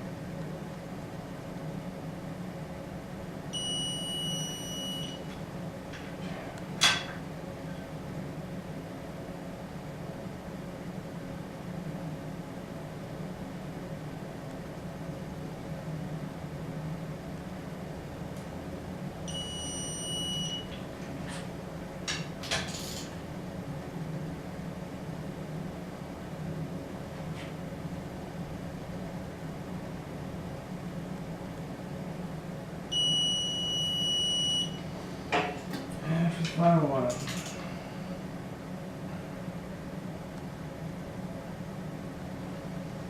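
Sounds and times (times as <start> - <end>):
constant low hum: 0.0 - 43.0.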